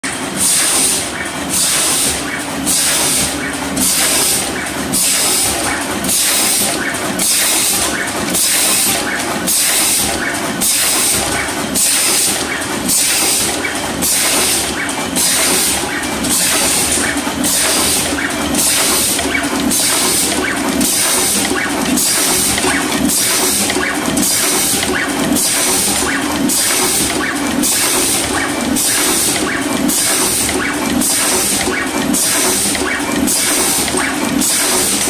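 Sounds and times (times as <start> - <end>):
wire processing machine hiss and clatter: 0.1 - 35.0.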